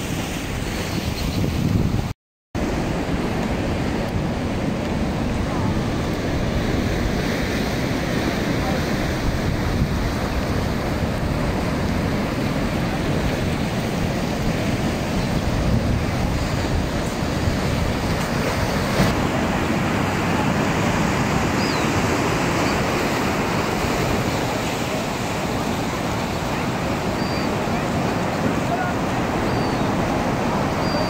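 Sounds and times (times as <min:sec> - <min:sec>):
ocean surf breaking on rocks: 0:02.6 - 0:31.0.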